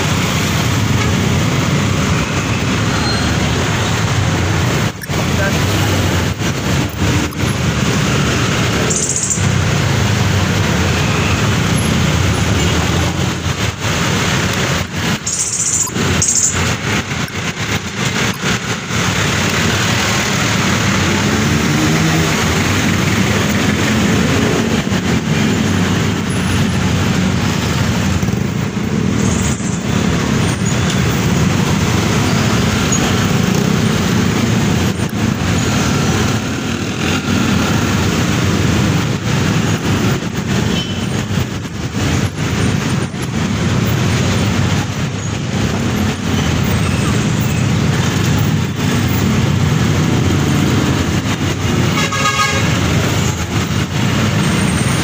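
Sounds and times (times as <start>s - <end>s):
traffic drone: 0.0s - 55.0s.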